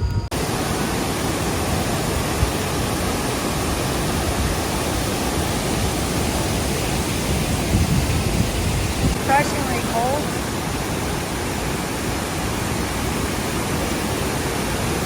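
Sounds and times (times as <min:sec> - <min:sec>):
waterfall rushing: 0:00.3 - 0:15.0.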